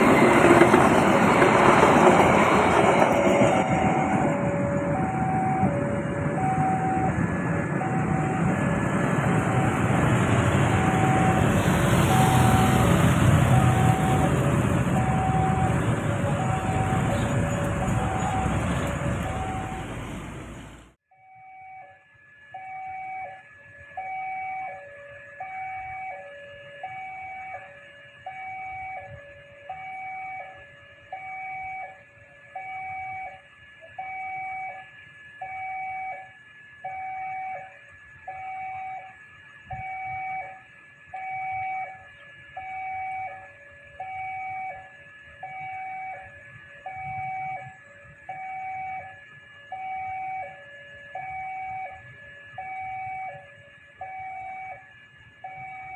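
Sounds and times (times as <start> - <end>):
level crossing two-tone alarm: 0.0 - 55.9.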